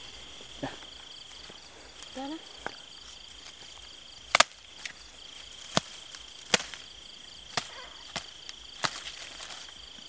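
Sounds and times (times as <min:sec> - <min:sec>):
night insects chirring: 0:00.0 - 0:10.0.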